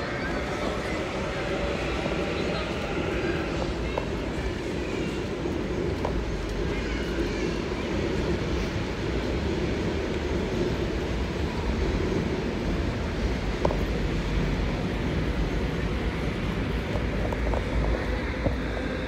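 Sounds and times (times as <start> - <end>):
electric train rumbling on viaduct: 0.0 - 19.0.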